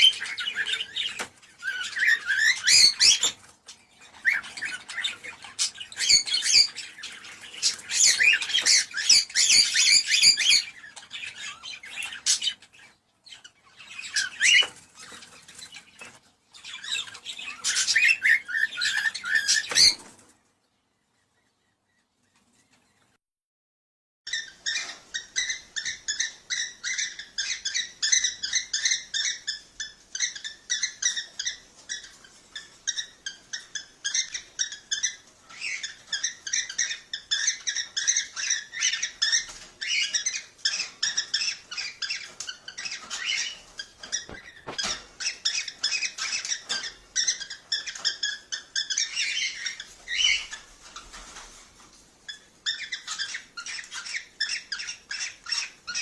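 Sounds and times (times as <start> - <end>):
cockatiels chirping: 0.0 - 20.3, 24.3 - 56.0.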